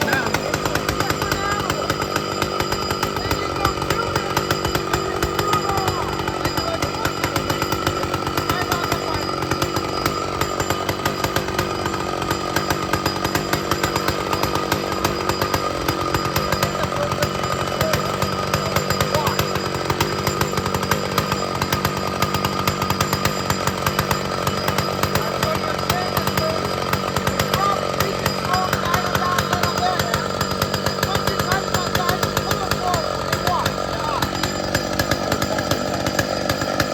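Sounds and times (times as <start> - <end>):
chainsaw running: 0.0 - 36.9.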